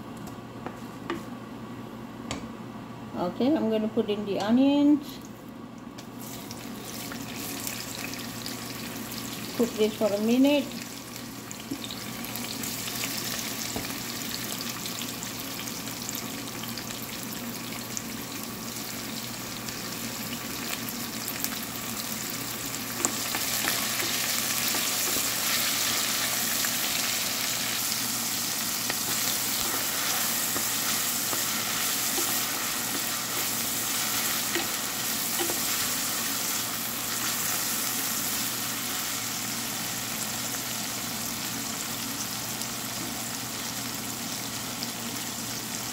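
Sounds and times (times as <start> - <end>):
onions sizzling in pot: 6.1 - 45.9.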